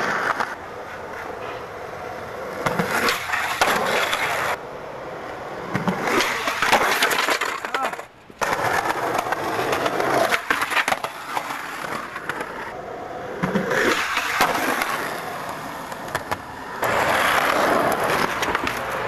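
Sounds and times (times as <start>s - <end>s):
skateboard clacking on ground: 0.0s - 19.0s
skateboard wheels rolling on concrete: 0.0s - 19.0s.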